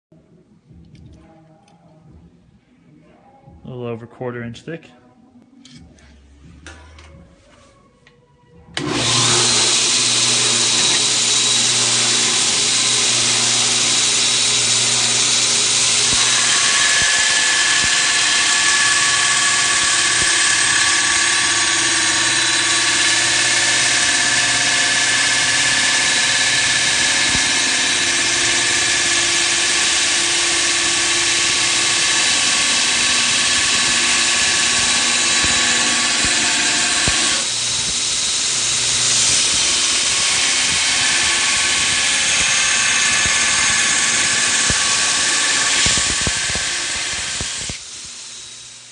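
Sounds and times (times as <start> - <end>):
belt grinder grinding steel: 8.8 - 48.9.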